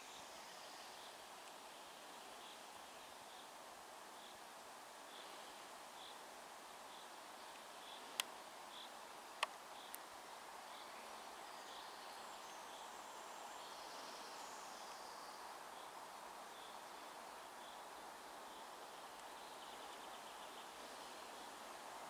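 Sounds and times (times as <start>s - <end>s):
hiss of air and foliage: 0.0s - 22.0s.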